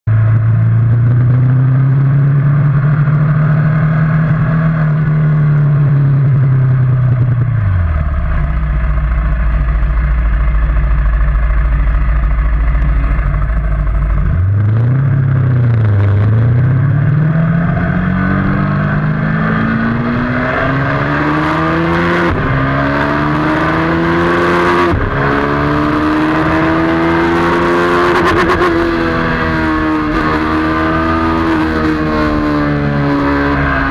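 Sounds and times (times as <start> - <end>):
motorcycle engine: 0.1 - 33.9.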